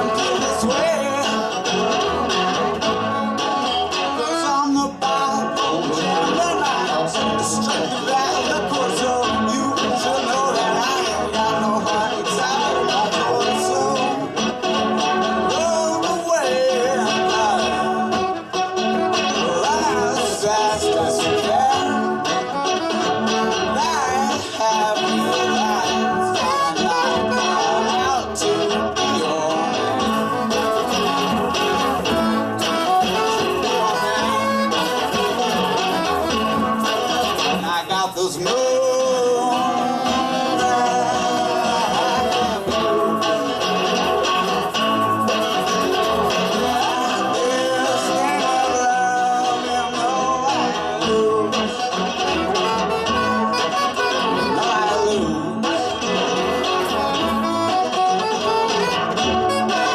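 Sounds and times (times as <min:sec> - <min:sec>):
guitar: 0:00.0 - 0:59.9
live folk-rock band music: 0:00.0 - 0:59.9.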